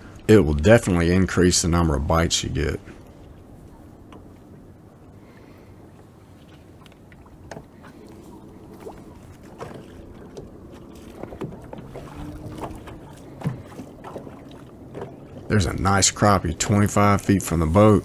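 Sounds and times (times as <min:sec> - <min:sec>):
waves lapping against boat hull: 0:00.0 - 0:18.0.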